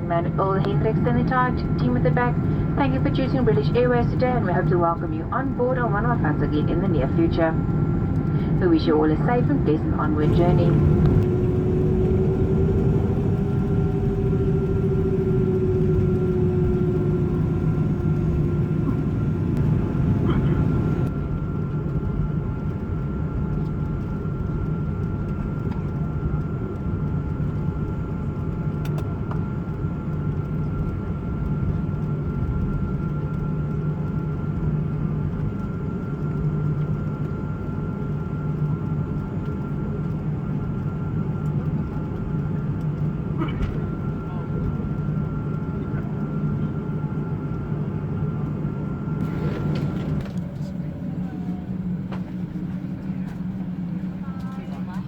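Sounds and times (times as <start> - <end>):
aircraft cabin engine hum: 0.0 - 55.0.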